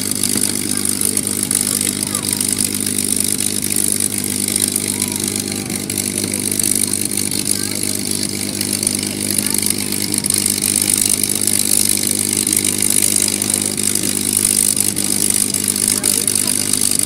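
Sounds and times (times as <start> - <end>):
piston aircraft engine idling: 0.0 - 17.0.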